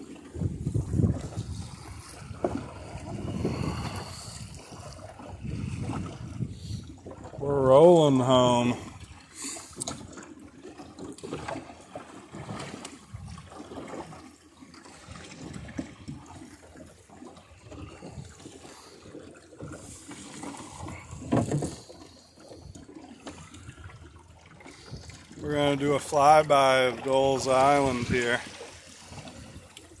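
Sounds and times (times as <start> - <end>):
water splashing along a boat hull: 0.0 - 30.0.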